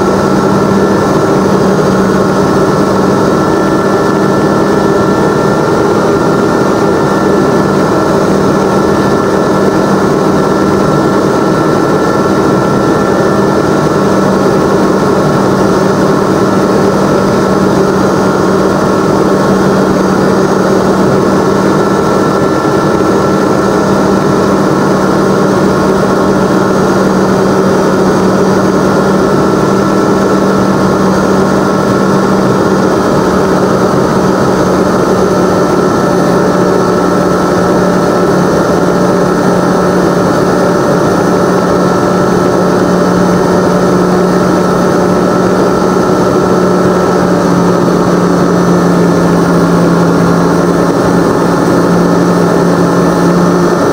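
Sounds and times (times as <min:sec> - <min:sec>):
aircraft engine and propeller: 0:00.0 - 0:53.9.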